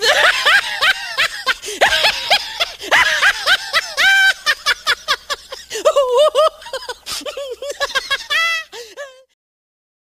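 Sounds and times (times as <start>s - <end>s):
high-pitched laughter: 0.0s - 9.2s.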